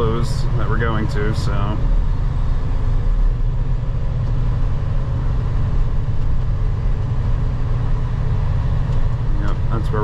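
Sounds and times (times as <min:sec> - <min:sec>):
diesel engine droning: 0:00.0 - 0:10.0
road noise: 0:00.0 - 0:10.0.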